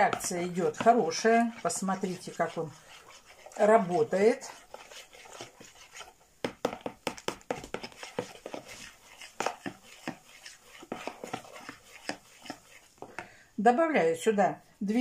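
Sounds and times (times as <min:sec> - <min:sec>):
metal spoon scraping plastic bowl: 0:00.0 - 0:13.4.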